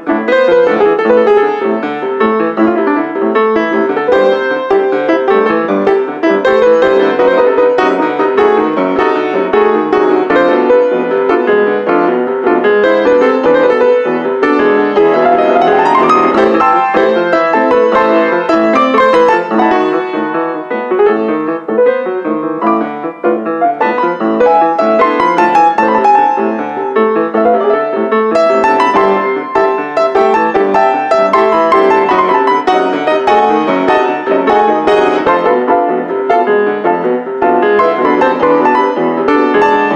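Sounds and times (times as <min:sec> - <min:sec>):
grand piano playing: 0:00.0 - 0:39.9.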